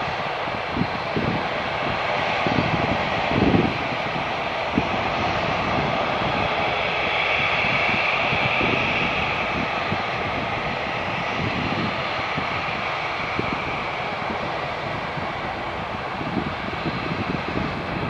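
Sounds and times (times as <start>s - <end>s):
jet engines rush and whine: 0.0s - 18.0s.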